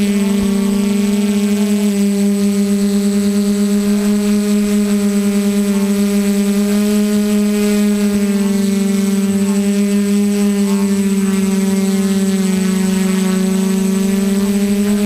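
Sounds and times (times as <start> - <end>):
quadcopter drone: 0.0 - 15.0.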